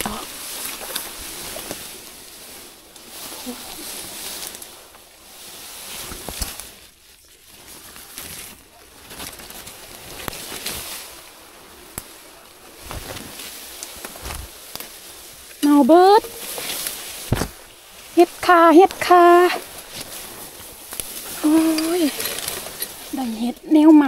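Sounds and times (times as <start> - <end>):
leaves and grass rustling: 0.0 - 24.0
light crackles: 0.0 - 24.0.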